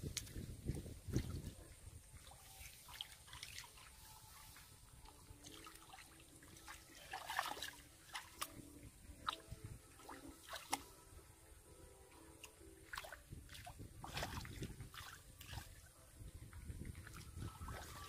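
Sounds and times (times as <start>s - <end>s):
hands sloshing through muddy water: 0.1s - 10.9s, 12.4s - 15.9s, 16.9s - 18.0s
small splashes and drips: 0.1s - 10.9s, 12.4s - 18.0s.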